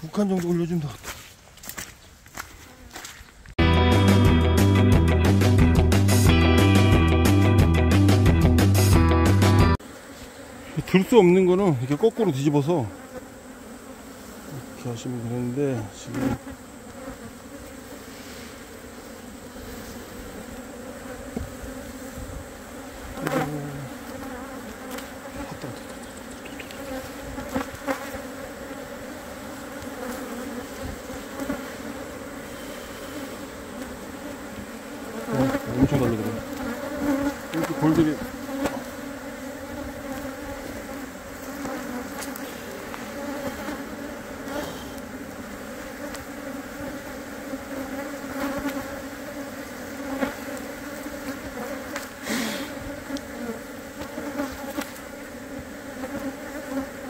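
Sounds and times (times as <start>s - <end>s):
honeybees buzzing: 2.3s - 57.0s.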